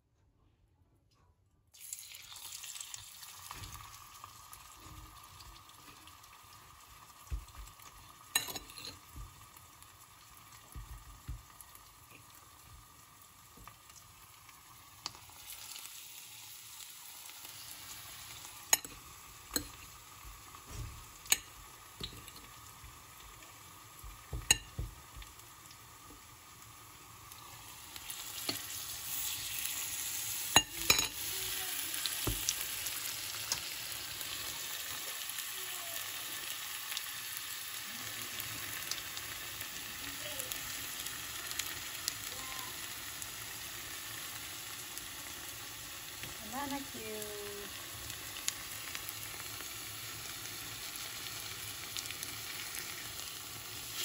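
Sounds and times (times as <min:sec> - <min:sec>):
oil sizzling in frying pan: 0:01.8 - 0:54.0.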